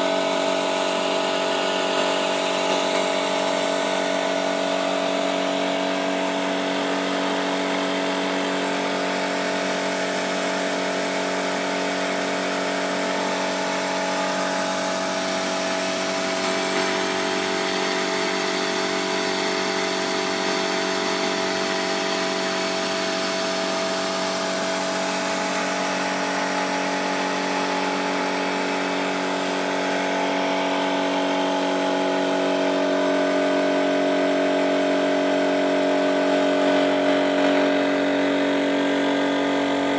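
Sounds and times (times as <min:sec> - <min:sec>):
model engine whirring on air: 0:00.0 - 0:39.9.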